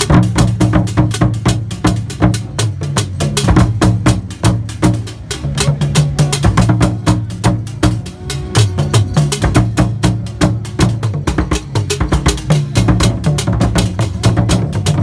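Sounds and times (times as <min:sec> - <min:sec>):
drums struck with sticks: 0:00.0 - 0:15.0.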